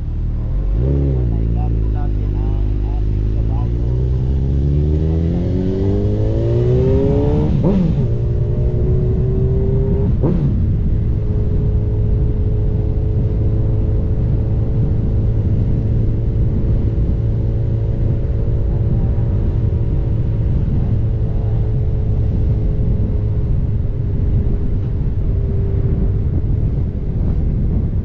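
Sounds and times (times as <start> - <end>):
low wind rumble: 0.0 - 28.0
motorcycle engine accelerating: 0.0 - 28.0.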